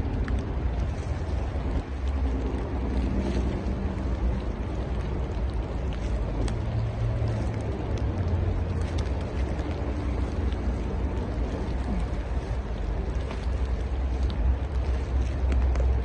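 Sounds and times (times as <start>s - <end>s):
faint engine hum: 0.0s - 16.0s
low rumble: 0.0s - 16.0s.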